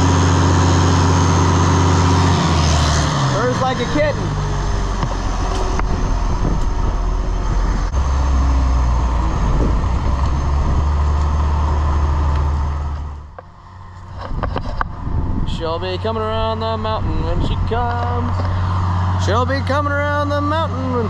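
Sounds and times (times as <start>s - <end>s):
old engine rumbling: 0.0s - 21.0s.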